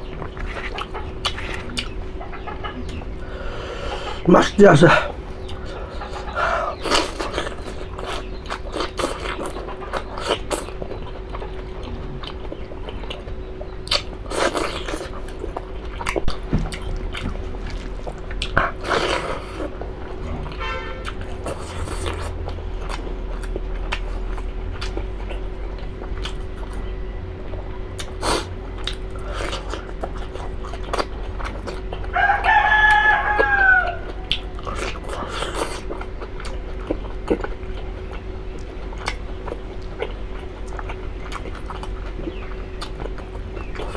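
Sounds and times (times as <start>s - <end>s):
person chewing: 0.0s - 2.0s, 4.8s - 26.9s, 27.5s - 43.9s.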